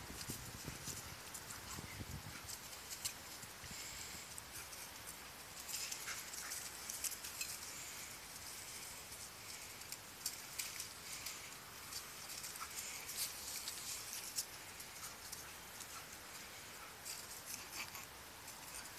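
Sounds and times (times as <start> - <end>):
paws pattering over dry leaves: 0.0 - 18.9.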